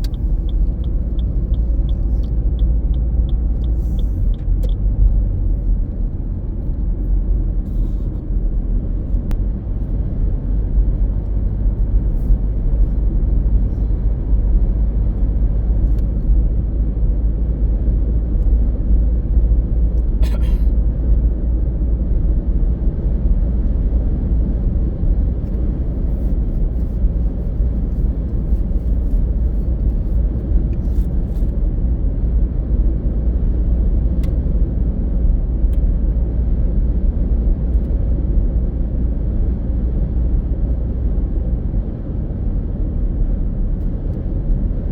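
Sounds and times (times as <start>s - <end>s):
car driving rumble: 0.0s - 44.9s.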